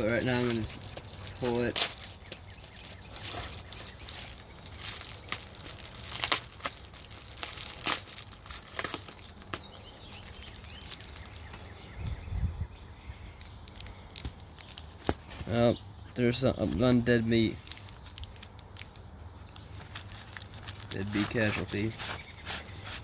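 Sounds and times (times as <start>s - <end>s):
foil and bubble wrap crinkling: 0.0s - 11.8s, 13.4s - 15.6s, 17.2s - 23.0s.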